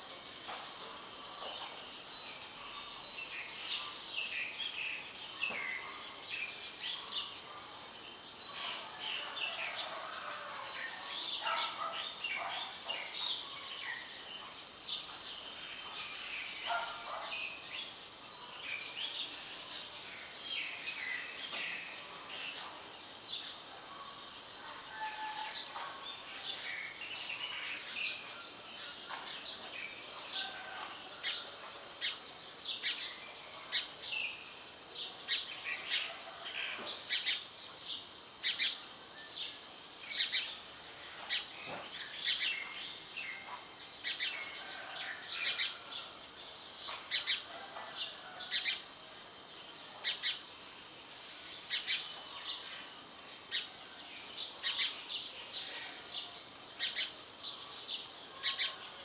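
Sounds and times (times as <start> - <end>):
small birds chirping and singing: 0.0 - 59.0.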